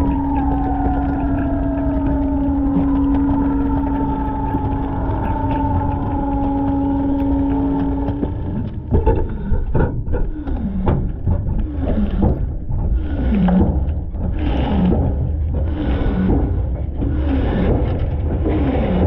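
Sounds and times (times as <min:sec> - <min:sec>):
hydraulic groans and creaks: 0:00.0 - 0:19.0
hydraulic whine: 0:00.0 - 0:19.0
truck engine rumble: 0:00.0 - 0:19.0.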